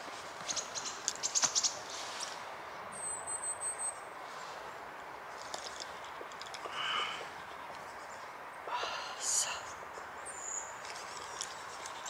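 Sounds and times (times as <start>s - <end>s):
quiet forest ambience: 0.0s - 12.0s.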